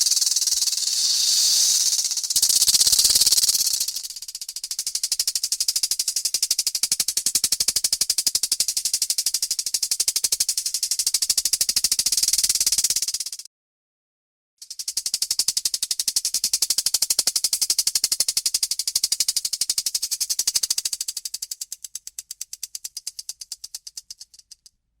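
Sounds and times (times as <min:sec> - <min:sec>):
rattlesnake rattle buzzing: 0:00.0 - 0:13.4, 0:14.6 - 0:21.7.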